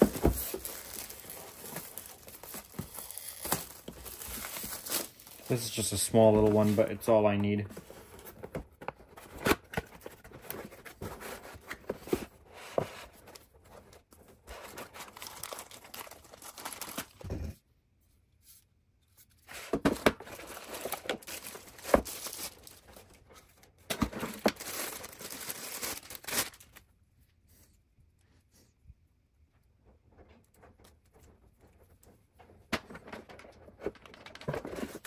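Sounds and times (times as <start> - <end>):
cardboard and plastic rustling: 0.0 - 17.6, 19.2 - 26.9, 29.8 - 35.0.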